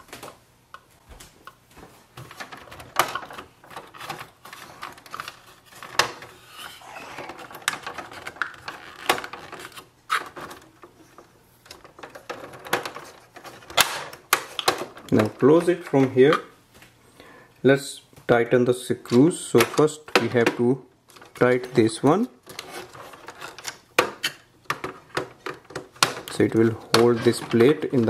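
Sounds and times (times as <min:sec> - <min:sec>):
plastic parts clicking and rattling: 0:02.2 - 0:16.4, 0:19.0 - 0:28.0.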